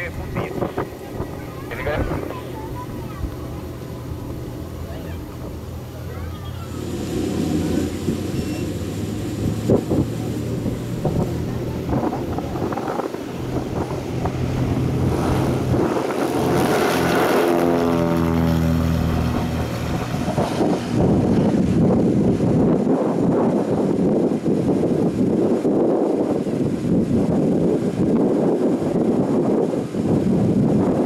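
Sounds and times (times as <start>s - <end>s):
propeller plane engine at full power: 0.0s - 31.0s.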